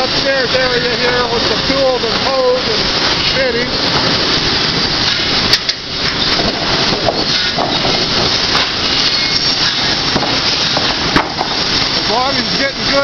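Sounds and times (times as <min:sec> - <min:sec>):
sawmill machinery running: 0:00.0 - 0:13.0.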